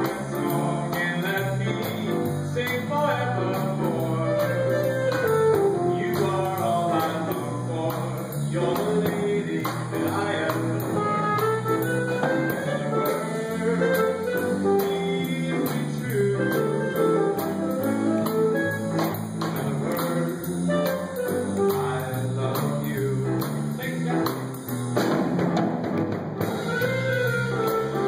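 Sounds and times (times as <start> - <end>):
small jazz band playing: 0.0 - 28.0.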